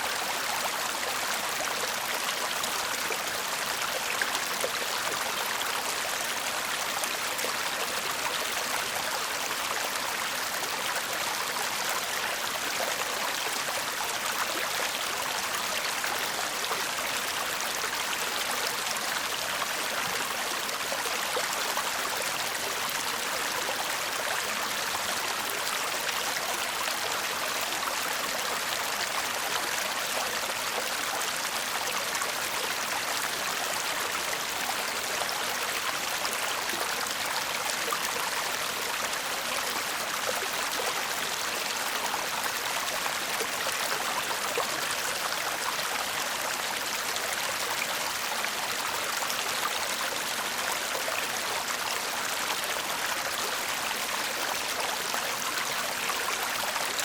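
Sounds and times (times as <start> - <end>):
brook babbling and trickling: 0.0 - 57.0.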